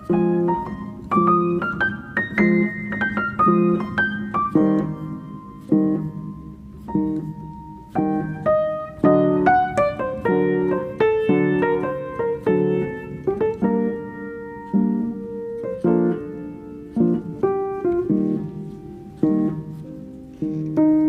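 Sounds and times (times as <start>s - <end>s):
calm solo piano music: 0.0s - 21.0s.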